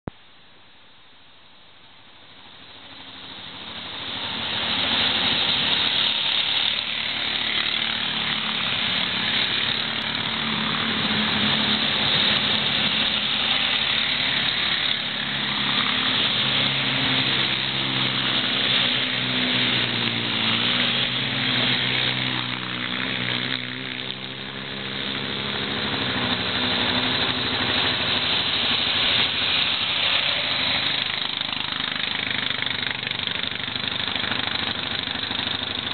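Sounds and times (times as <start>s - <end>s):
quad bike engines passing: 2.4s - 35.9s.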